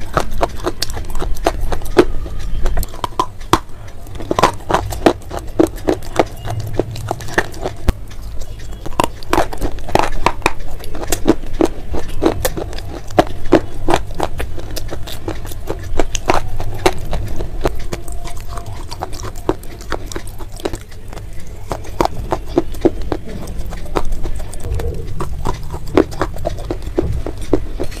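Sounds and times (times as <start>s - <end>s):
crunchy chewing: 0.0s - 28.0s
low steady rumble: 0.0s - 28.0s.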